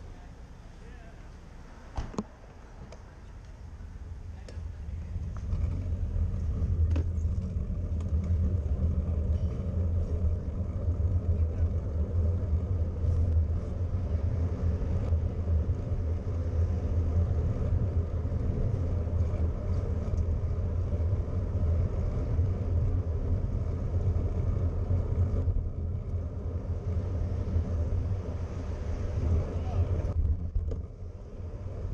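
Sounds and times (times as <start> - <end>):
tyre and road noise: 0.0 - 31.9.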